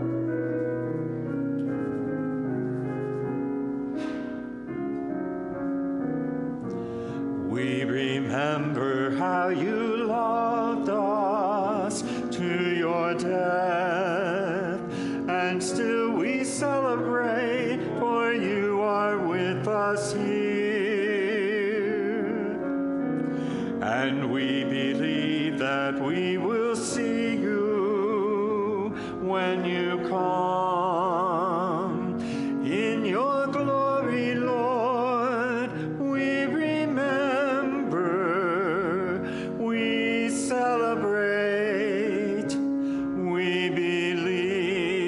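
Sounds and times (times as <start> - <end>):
keyboard hymn chords: 0.0 - 45.0
solo singer with vibrato: 7.4 - 22.9, 23.5 - 45.0.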